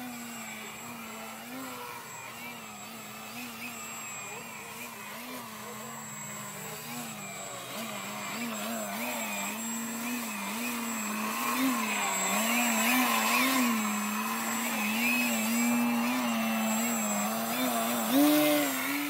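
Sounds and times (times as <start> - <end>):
electric motor and propeller buzzing: 0.0 - 19.0.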